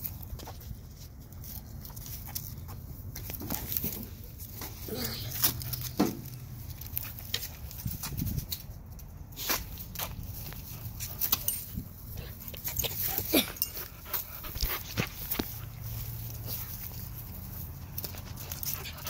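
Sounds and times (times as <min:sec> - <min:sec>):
dogs rustling in dry straw: 0:00.0 - 0:19.0.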